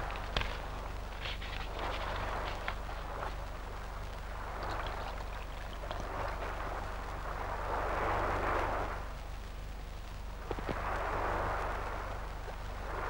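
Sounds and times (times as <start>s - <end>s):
surf washing onto beach: 0.0s - 9.4s, 10.3s - 13.0s
low film soundtrack hum: 0.0s - 13.0s.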